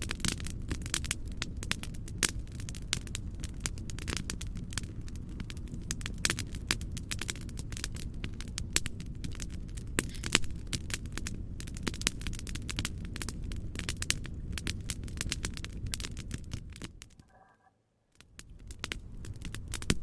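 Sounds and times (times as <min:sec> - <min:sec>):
low rumble of white noise: 0:00.0 - 0:20.0
wood fire crackling: 0:00.0 - 0:20.0.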